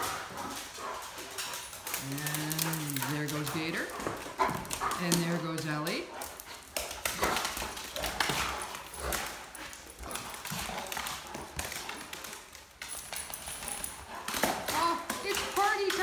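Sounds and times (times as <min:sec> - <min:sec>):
dog claws clicking on tile: 0:00.0 - 0:16.0
paws thudding on tile floor: 0:00.0 - 0:16.0.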